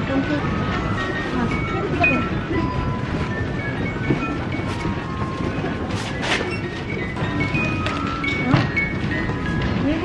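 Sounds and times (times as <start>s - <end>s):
music box playing: 0.5s - 10.0s.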